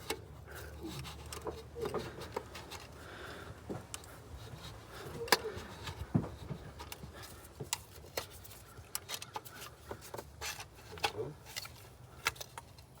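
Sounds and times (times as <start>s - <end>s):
light clicks and knocks: 0.0s - 13.0s.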